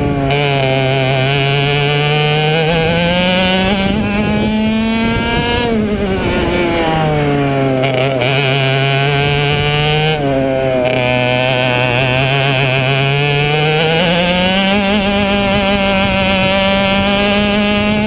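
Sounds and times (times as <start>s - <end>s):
kart engine revving: 0.0s - 18.0s.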